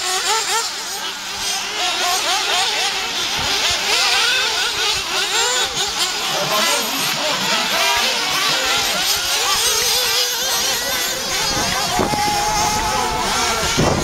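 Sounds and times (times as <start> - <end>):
rc buggy motors whining: 0.0 - 14.0.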